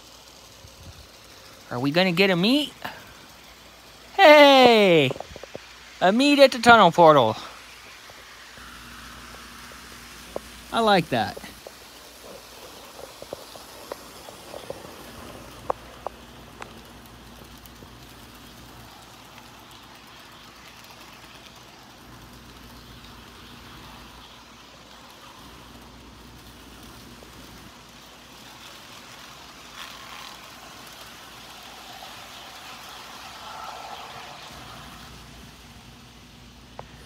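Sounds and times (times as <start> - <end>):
model trains humming on track: 0.0 - 37.0.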